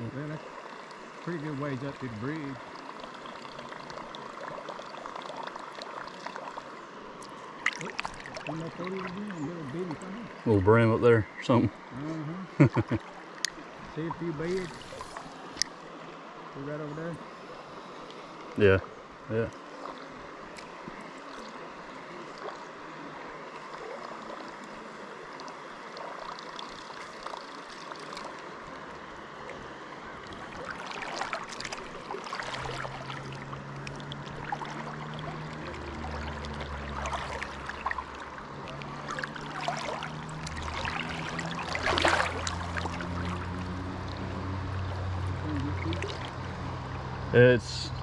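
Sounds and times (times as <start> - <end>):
water splashing: 0.0 - 18.7, 19.3 - 48.0
flowing river water: 0.0 - 48.0.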